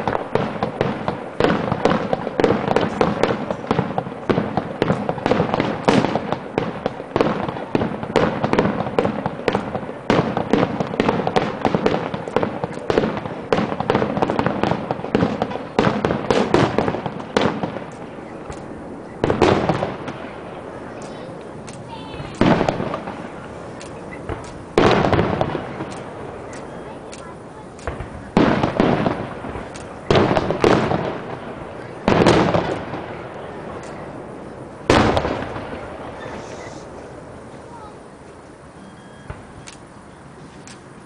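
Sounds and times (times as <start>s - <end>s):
fireworks cracks and bangs: 0.0s - 41.0s.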